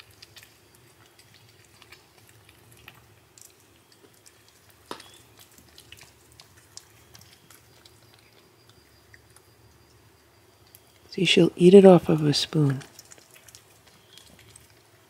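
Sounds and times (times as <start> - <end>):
cat licking and chewing food: 0.0 - 15.0.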